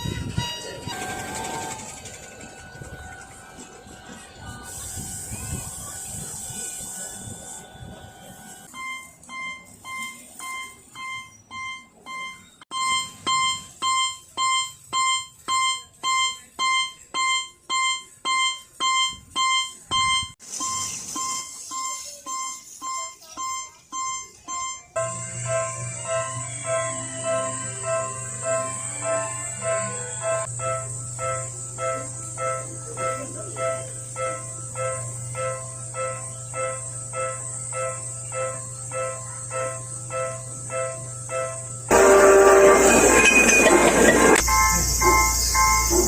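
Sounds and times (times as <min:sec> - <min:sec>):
electronic crossing bells ringing: 0:00.0 - 0:46.0.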